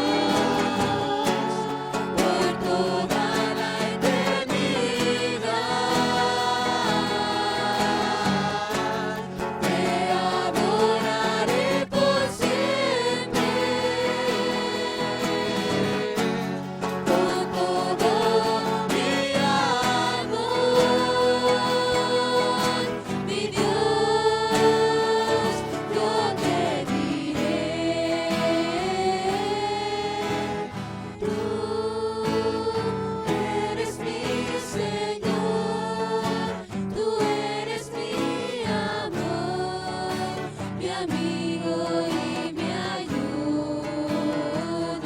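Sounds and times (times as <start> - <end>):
group singing worship song: 0.0 - 45.0
musical backing: 0.0 - 45.0.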